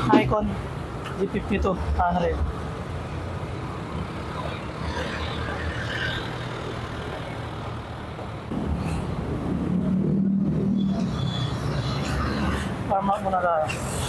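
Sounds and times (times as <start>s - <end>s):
vehicle engines passing: 0.0s - 14.0s.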